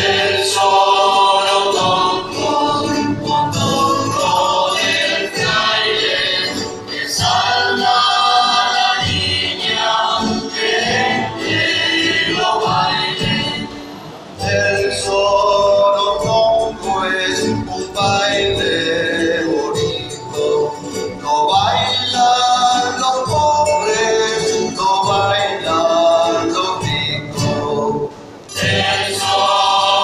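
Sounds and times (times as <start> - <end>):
group of voices singing: 0.0 - 30.0
strummed guitars: 0.0 - 30.0.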